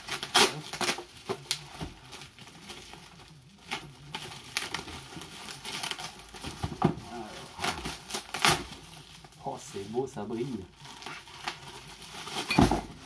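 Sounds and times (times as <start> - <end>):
plastic film rustling and crinkling: 0.0 - 13.0.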